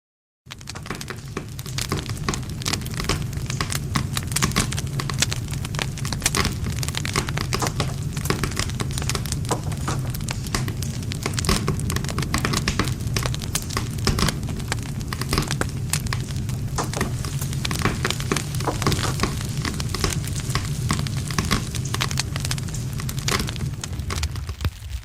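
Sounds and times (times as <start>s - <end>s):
campfire crackling and popping: 0.5s - 25.0s
low rumble of flames: 0.5s - 25.0s.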